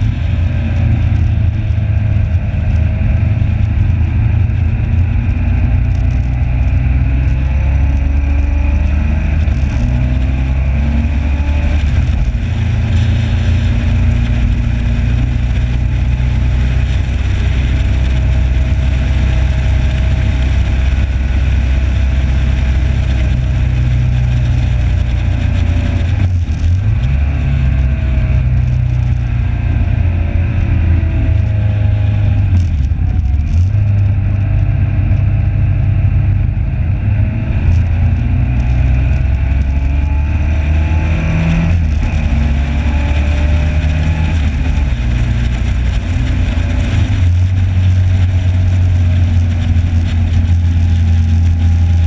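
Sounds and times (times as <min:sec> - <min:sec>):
motorcycle engine running hard: 0:00.0 - 0:52.0
wind noise: 0:00.0 - 0:52.0.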